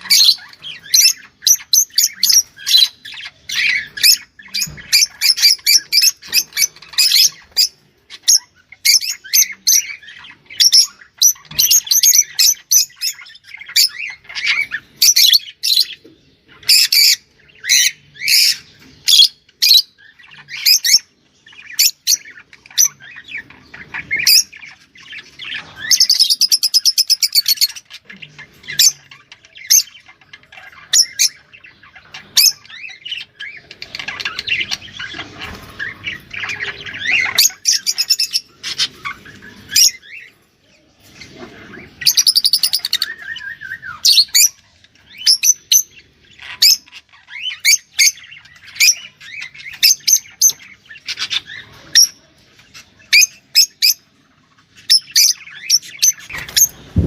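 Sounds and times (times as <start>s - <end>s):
cage birds chirping and squawking: 0.0s - 57.0s.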